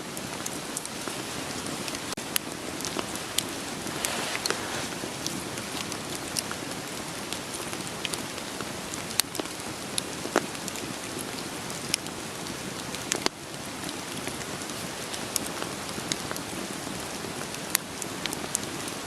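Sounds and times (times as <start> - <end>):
steady rain: 0.0 - 19.0
wood fire crackling: 0.1 - 19.0.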